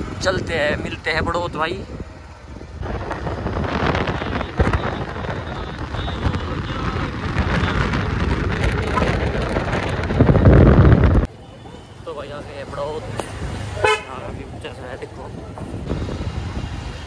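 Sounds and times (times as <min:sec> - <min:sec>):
wind buffeting microphone: 0:00.0 - 0:11.4, 0:12.3 - 0:17.0
vehicle and road noise: 0:00.0 - 0:17.0.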